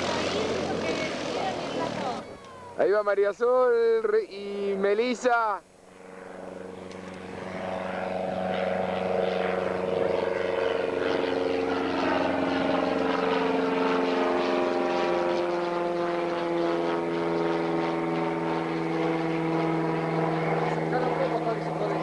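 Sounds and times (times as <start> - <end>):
light aircraft flying overhead: 0.0 - 22.0.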